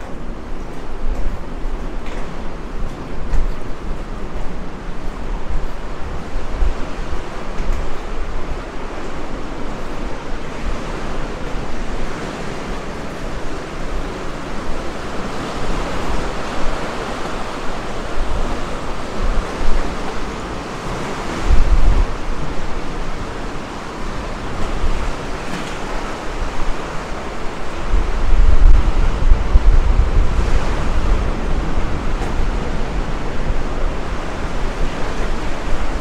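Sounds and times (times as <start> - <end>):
surf washing onto beach: 0.0 - 36.0
wind buffeting microphone: 0.0 - 36.0.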